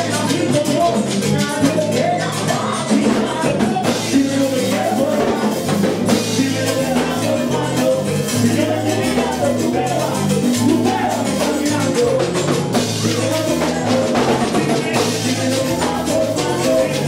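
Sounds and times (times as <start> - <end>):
bass line: 0.0 - 17.0
drums: 0.0 - 17.0
person singing: 0.0 - 17.0.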